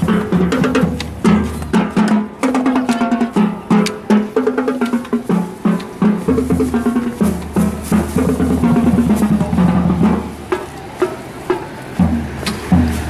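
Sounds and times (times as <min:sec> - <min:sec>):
snare drum strokes: 0:00.0 - 0:13.0
tenor and bass drums: 0:00.0 - 0:13.0.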